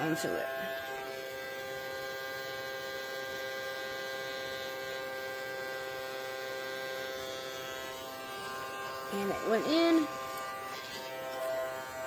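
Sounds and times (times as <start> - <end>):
toy vacuum motor humming: 0.0 - 12.0.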